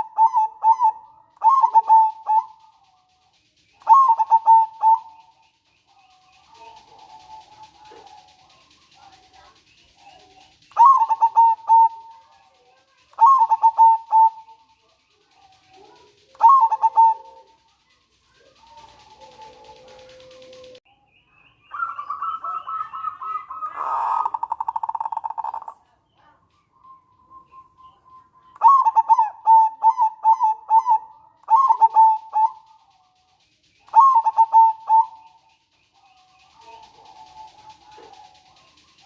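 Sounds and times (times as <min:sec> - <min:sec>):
dove trilling call: 0:00.0 - 0:20.8, 0:21.4 - 0:39.0.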